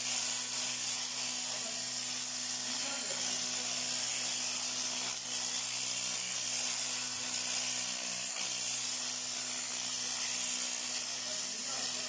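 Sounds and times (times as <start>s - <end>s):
welding machine hiss: 0.0s - 12.0s.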